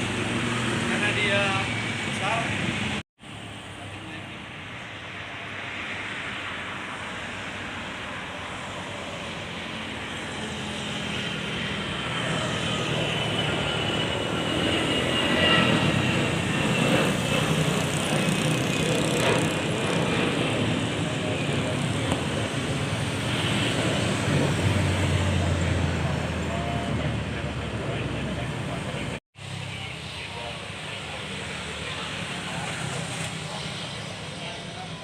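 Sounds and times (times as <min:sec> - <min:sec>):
jet engines at takeoff: 0:00.0 - 0:35.0.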